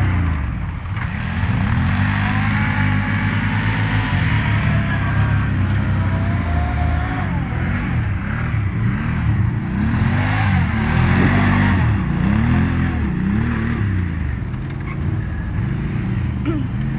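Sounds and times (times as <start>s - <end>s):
quad bike engine revving: 0.0s - 16.9s.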